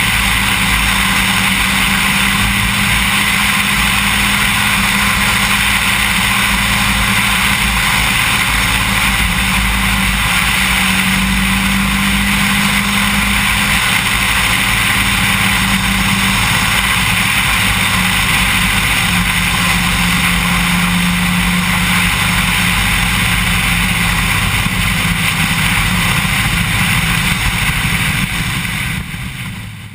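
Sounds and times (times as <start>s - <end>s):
car engine running: 0.0s - 29.9s
road and wind noise: 0.0s - 29.9s.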